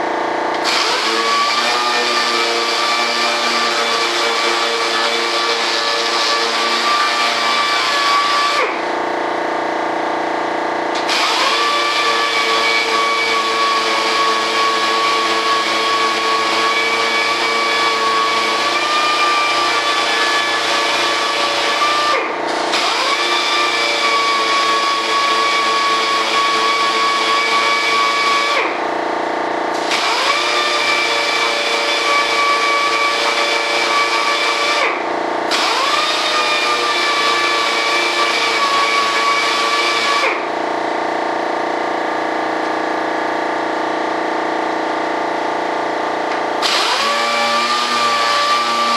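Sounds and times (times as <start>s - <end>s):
power tool motor whining: 0.5s - 9.2s, 10.9s - 28.9s, 29.7s - 40.6s, 46.3s - 48.9s.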